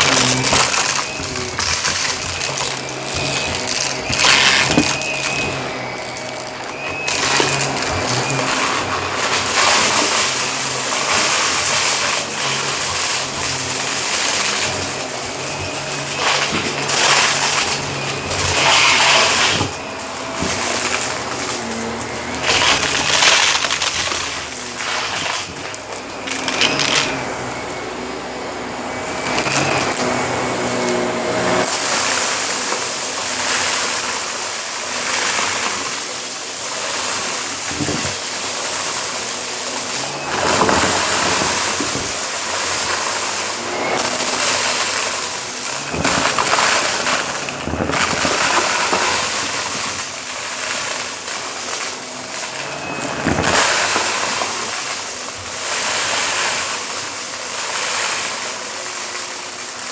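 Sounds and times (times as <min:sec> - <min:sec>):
vacuum cleaner on carpet: 0:00.0 - 0:59.9
vacuum crackling sucking debris: 0:00.0 - 0:59.9.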